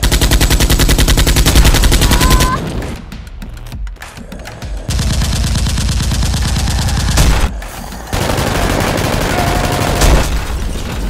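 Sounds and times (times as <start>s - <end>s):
rapid automatic gunfire: 0.0s - 3.0s, 4.9s - 11.0s.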